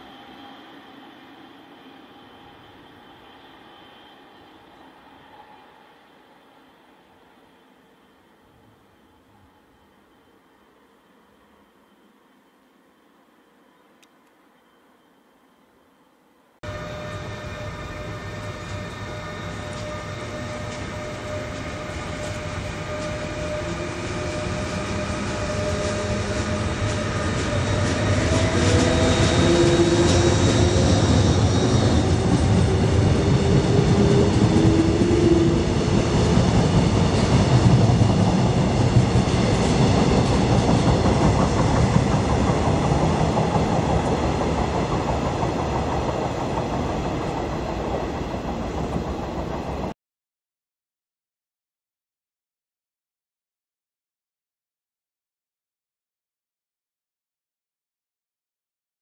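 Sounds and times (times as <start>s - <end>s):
electric train passing on track: 0.0s - 50.0s.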